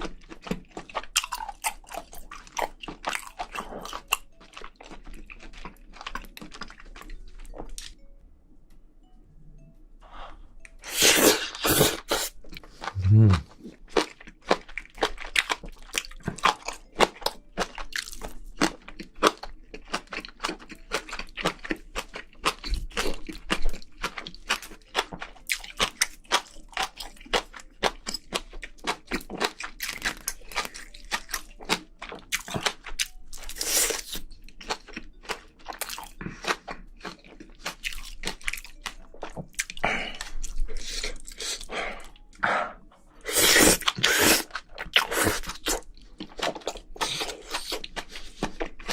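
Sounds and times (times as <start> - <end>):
chewing and crunching food: 0.0 - 8.0, 10.6 - 48.9.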